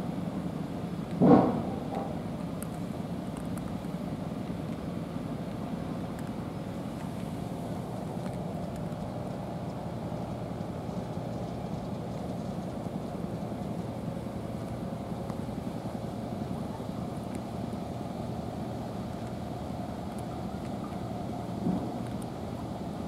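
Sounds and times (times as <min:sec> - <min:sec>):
low rumble with faint hum: 0:00.0 - 0:23.0.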